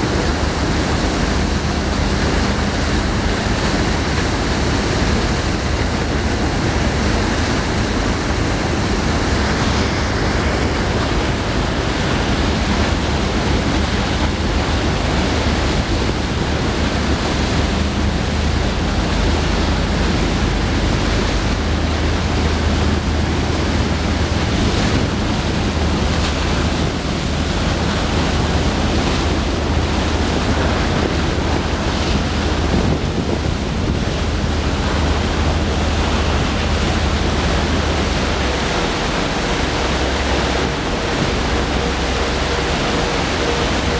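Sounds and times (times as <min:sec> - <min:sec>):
low engine hum: 0:00.0 - 0:43.9
water wake rushing: 0:00.0 - 0:43.9
wind buffeting microphone: 0:00.0 - 0:43.9.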